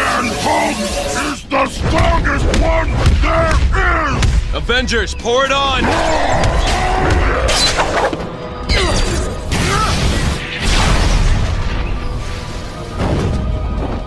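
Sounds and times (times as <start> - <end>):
dramatic orchestral score: 0.0 - 14.0.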